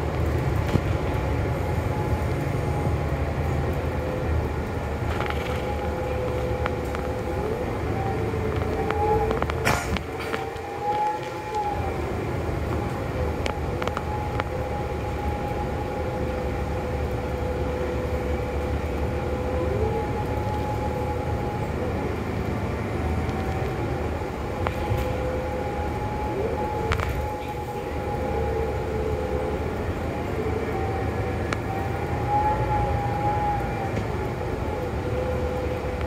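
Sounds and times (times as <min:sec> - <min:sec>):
bus engine rumble: 0:00.0 - 0:36.0
engine whine: 0:00.0 - 0:36.0.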